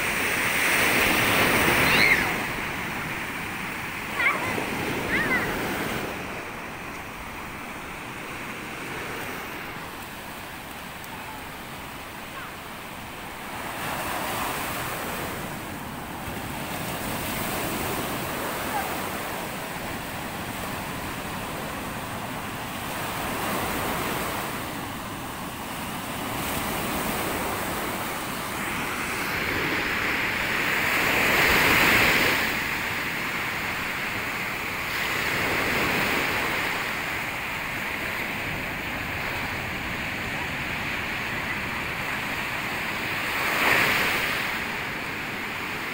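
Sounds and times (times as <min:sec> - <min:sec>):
surf breaking on a beach: 0:00.0 - 0:45.9.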